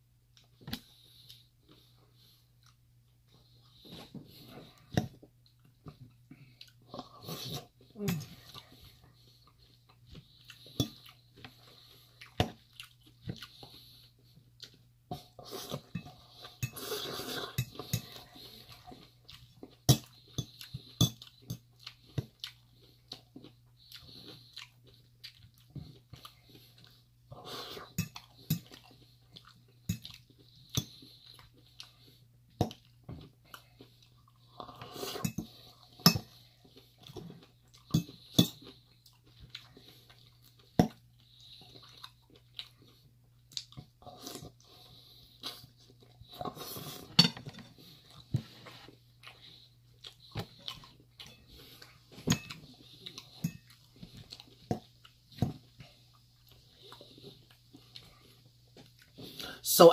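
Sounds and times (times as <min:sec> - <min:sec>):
crunchy chewing of salad: 0:08.5 - 0:59.5.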